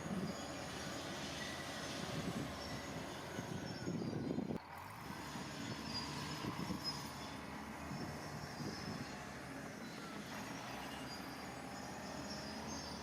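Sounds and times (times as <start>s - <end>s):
metallic squealing of tracks: 0.0s - 4.6s, 5.2s - 13.0s
heavy machinery engine rumble: 0.0s - 13.0s.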